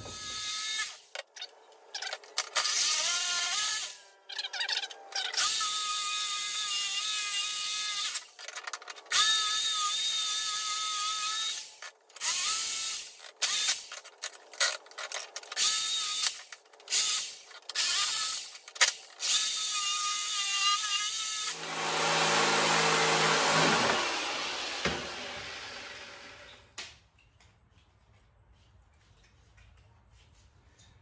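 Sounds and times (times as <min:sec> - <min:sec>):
jigsaw cutting plastic: 0:00.0 - 0:26.6.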